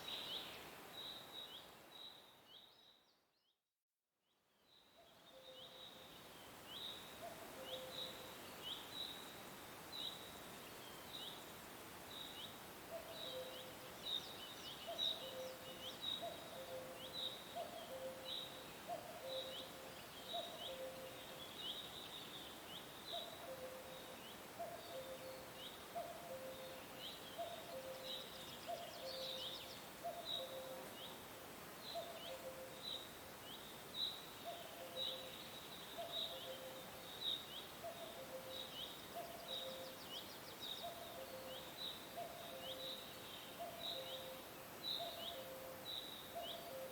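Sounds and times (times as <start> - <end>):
steady background hiss: 0.0 - 2.8, 4.6 - 46.9.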